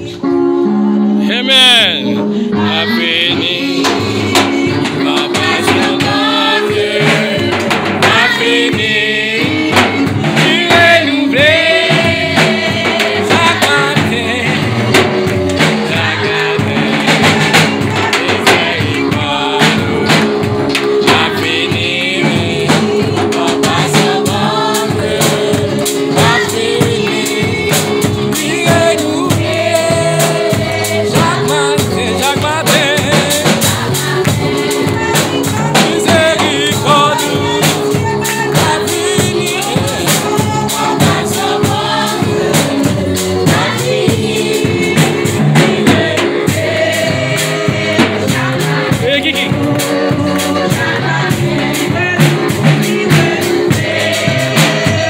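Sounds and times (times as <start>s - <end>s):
congregation singing a hymn: 0.0s - 55.0s
steady drum beat: 2.6s - 55.0s.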